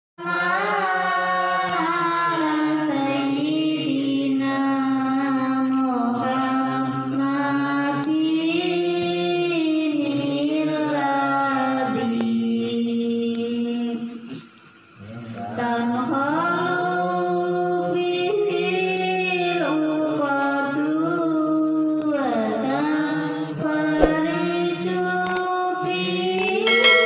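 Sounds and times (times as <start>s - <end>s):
person chanting devotional song: 0.2s - 27.0s.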